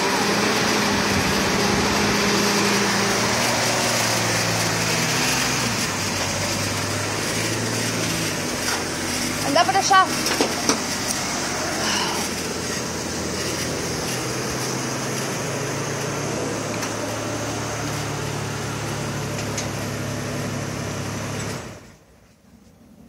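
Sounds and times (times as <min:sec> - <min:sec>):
pickup truck engine running: 0:00.0 - 0:21.9.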